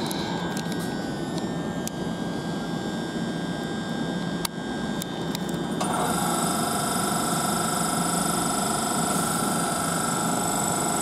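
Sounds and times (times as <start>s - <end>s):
train equipment humming and whining: 0.0s - 11.0s.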